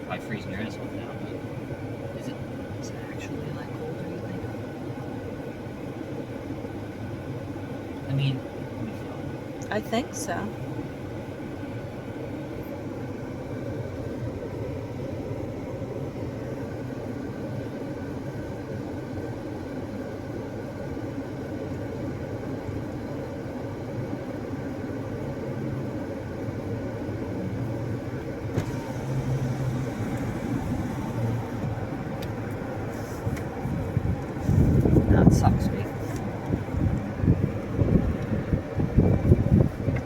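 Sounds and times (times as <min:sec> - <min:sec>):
car idling with blower: 0:00.0 - 0:40.0.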